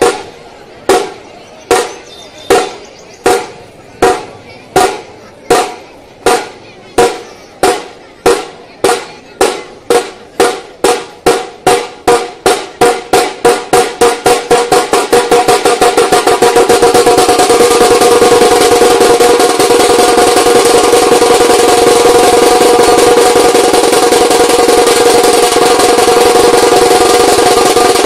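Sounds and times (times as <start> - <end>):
barrel drums accelerating beat: 0.0 - 28.0.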